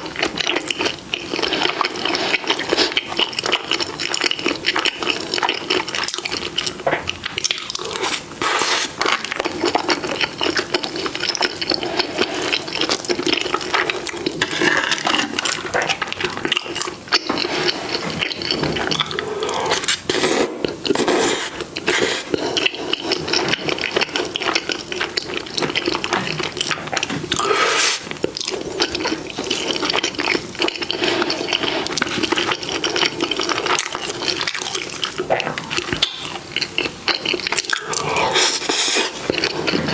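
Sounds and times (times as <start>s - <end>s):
chewing and slurping food: 0.0s - 39.9s.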